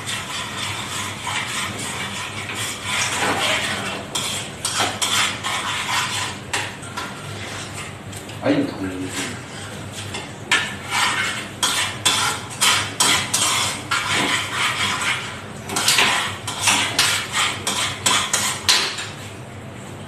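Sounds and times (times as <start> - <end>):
utensil scraping a pan: 0.0 - 19.4.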